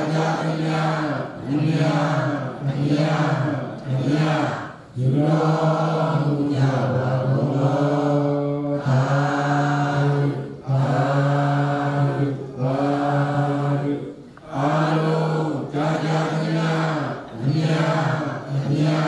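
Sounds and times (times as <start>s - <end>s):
group chanting in unison: 0.0s - 19.0s.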